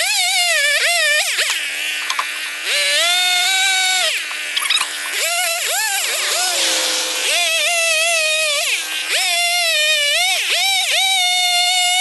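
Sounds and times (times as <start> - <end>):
chainsaw revving while cutting wood: 0.0 - 12.0.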